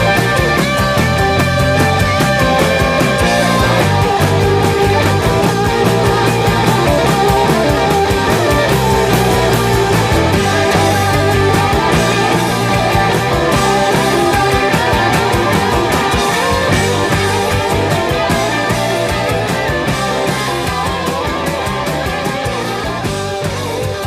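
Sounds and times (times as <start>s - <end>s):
bass guitar: 0.0s - 24.0s
electric guitars soloing: 0.0s - 24.0s
steady drum beat: 0.0s - 24.0s.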